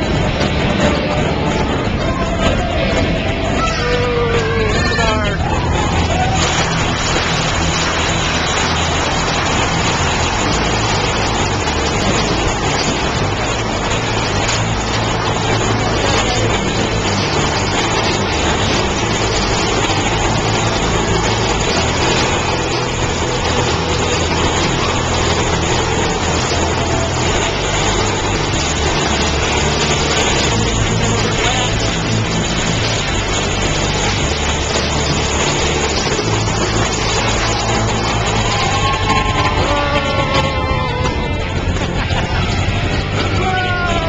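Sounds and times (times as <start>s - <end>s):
roller coaster rumbling and rattling: 0.0s - 44.0s.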